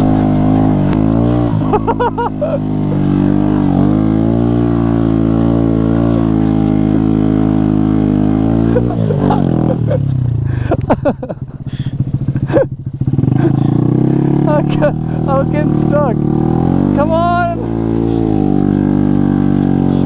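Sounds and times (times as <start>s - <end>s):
motorcycle engine chugging in sand: 0.0s - 20.0s.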